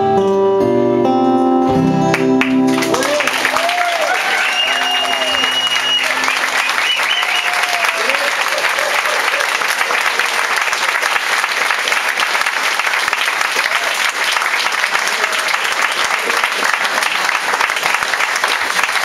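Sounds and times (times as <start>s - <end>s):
audience applauding: 2.1s - 19.0s.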